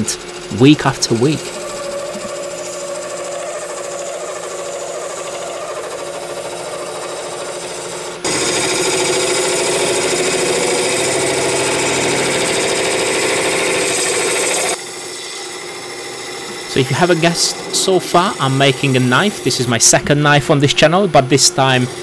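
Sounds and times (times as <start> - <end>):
lathe tool scraping wood: 0.0 - 22.0
wood lathe running: 0.0 - 22.0.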